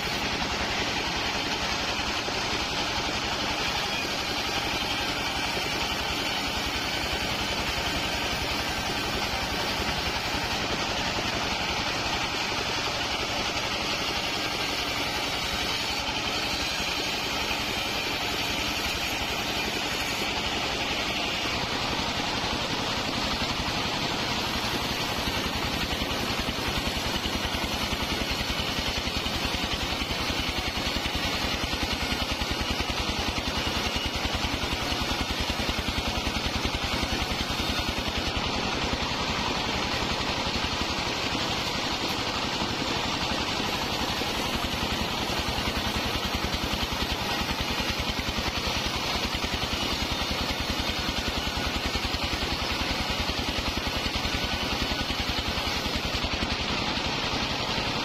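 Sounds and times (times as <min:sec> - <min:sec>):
portable sawmill cutting wood: 0:00.0 - 0:58.0.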